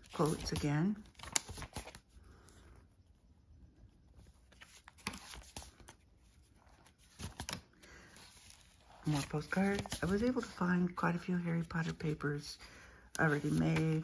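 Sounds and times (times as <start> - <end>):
paper pages rustling: 0.0 - 2.1, 4.2 - 12.5, 13.1 - 14.0.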